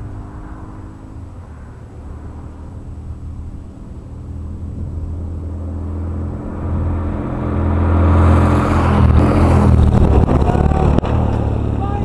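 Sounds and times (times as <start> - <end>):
motorcycles passing by: 0.0 - 12.0.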